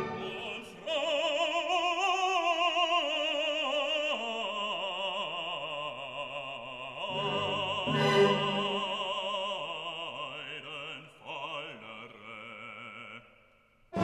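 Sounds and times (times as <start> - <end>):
man singing gospel with vibrato: 0.0 - 14.0.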